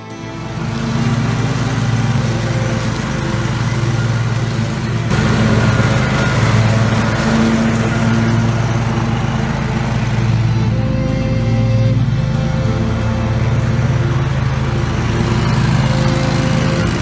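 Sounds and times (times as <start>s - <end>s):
ride-on mower running: 0.0s - 17.0s.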